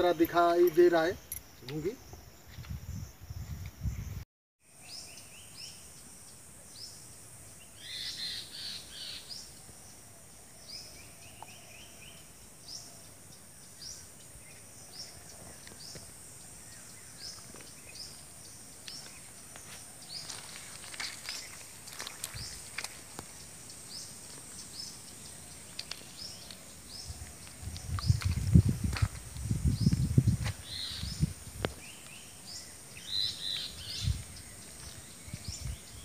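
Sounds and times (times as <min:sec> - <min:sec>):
birds chirping: 0:04.9 - 0:36.0.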